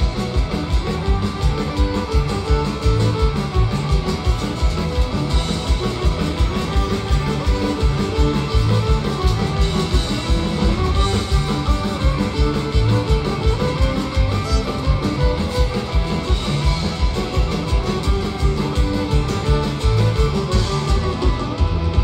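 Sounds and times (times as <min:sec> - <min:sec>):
folk-punk band playing loud: 0:00.0 - 0:22.0.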